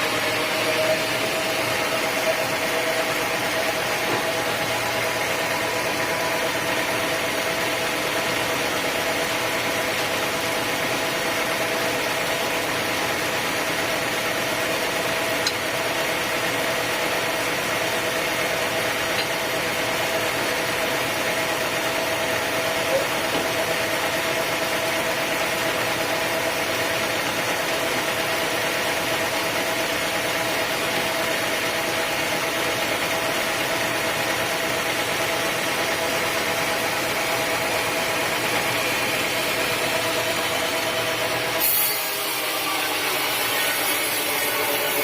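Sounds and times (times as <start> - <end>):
sawmill saw cutting wood: 0.0 - 45.0.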